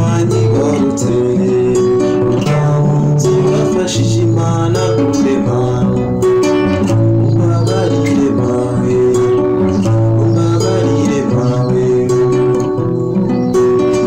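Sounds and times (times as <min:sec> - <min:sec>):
classical guitars playing: 0:00.0 - 0:14.0
man singing: 0:00.0 - 0:14.0.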